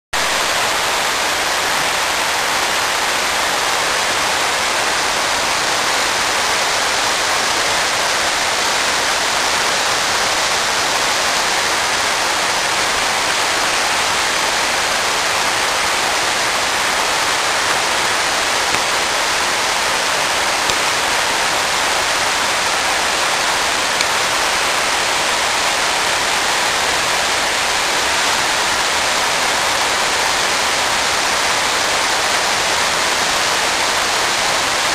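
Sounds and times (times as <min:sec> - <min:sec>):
rushing water: 0:00.2 - 0:34.9.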